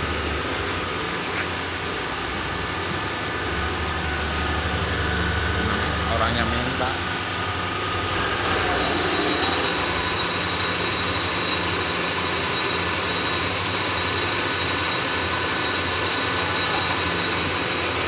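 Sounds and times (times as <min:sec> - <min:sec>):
hydraulic pump whining and humming: 0:00.0 - 0:18.0.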